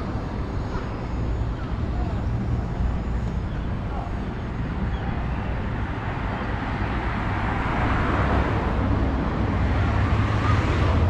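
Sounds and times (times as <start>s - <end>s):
road traffic rushing: 0.0s - 11.0s.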